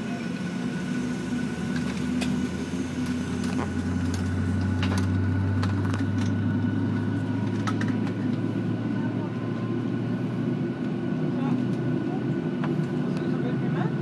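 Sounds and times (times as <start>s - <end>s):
low drone: 0.0s - 14.0s
steady mechanical hum: 0.0s - 14.0s.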